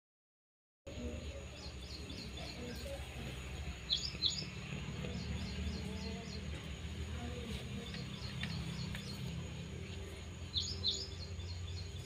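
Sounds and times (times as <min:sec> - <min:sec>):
small birds chirping: 0:00.9 - 0:12.0.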